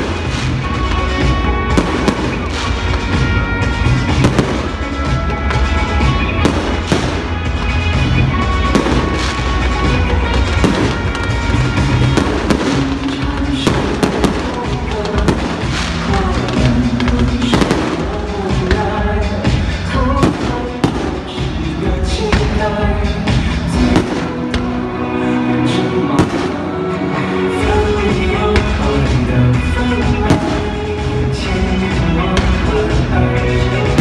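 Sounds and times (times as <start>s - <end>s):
fireworks bangs and crackles: 0.0s - 25.0s, 26.0s - 34.0s
loud music: 0.0s - 34.0s.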